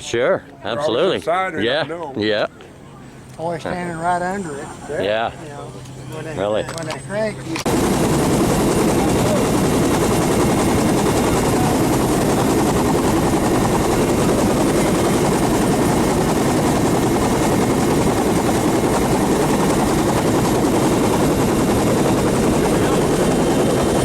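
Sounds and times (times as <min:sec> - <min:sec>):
helicopter running: 0:03.4 - 0:24.0.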